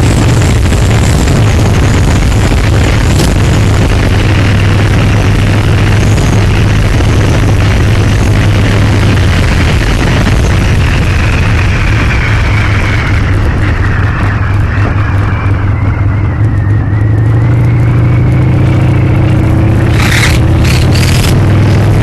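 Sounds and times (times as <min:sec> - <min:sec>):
motorcycle engine running: 0:00.0 - 0:22.0
wind rush over microphone: 0:00.0 - 0:22.0.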